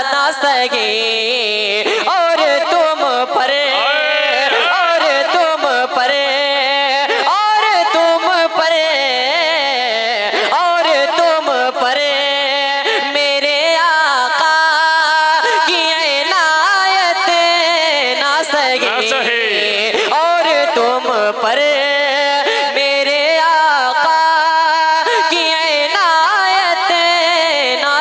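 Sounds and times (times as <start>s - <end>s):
young man singing into microphone: 0.0s - 6.6s, 7.6s - 28.0s.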